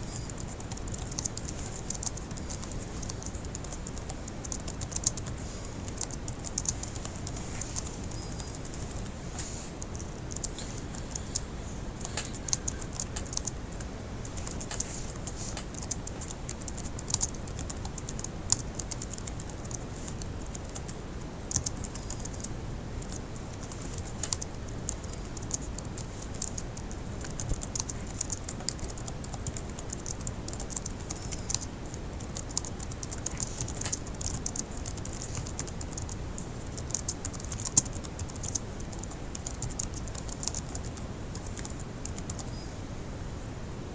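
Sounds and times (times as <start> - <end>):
fast typing on laptop keyboard: 0.1 - 9.2, 9.8 - 42.5.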